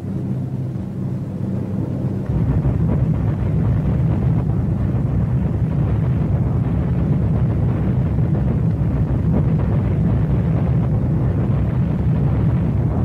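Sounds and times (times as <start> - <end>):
drone of bomber engines: 0.0 - 13.0
bombs bursting: 2.3 - 13.0.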